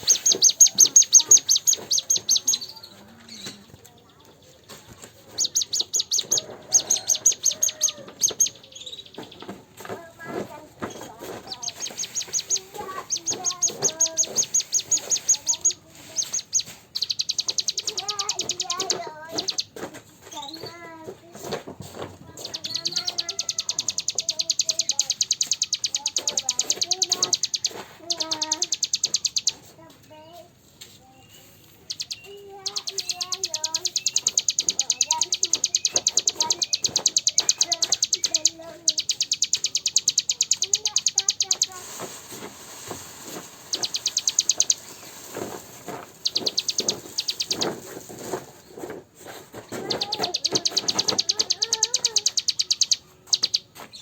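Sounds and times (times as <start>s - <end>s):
songbird high-pitched trill: 0.0s - 4.6s, 5.2s - 10.0s, 10.8s - 20.8s, 22.4s - 30.4s, 31.1s - 48.5s, 49.7s - 54.0s
soft low bird chirps: 0.0s - 20.8s, 22.4s - 48.9s, 49.6s - 54.0s.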